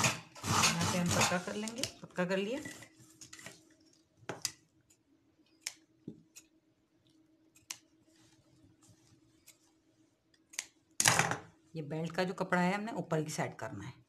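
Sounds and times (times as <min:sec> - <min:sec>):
faint steady hum: 0:00.1 - 0:14.0.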